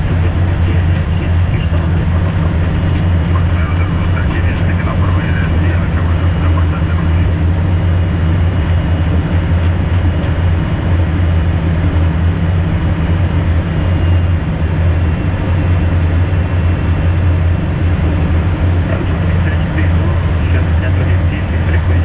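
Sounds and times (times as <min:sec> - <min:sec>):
low cabin hum: 0:00.0 - 0:22.0
rush of airflow and engine noise: 0:00.0 - 0:22.0.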